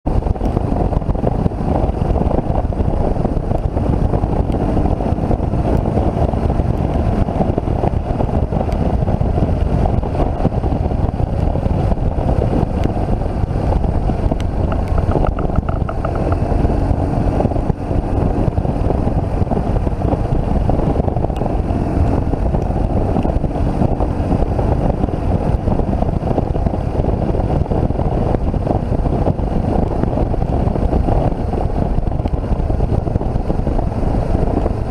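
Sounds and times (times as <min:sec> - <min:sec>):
motorcycle engine rumble: 0:00.0 - 0:34.9
wind rushing over microphone: 0:00.0 - 0:34.9.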